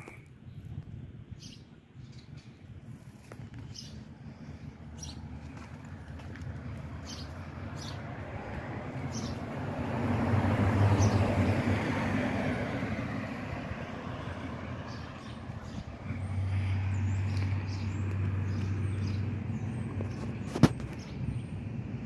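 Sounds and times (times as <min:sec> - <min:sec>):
low engine hum: 0:00.1 - 0:22.0
vehicle passing: 0:02.9 - 0:22.0.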